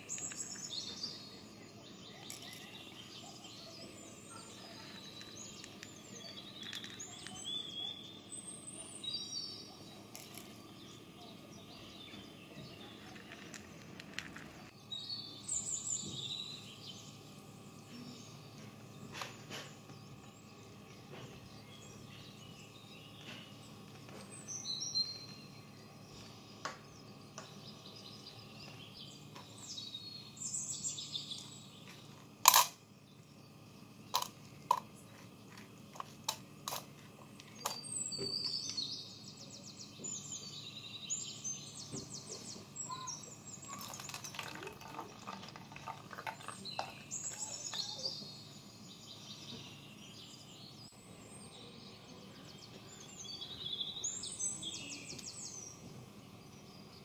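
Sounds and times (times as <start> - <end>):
birds chirping: 0.0 - 57.0
low background hum: 0.0 - 57.0.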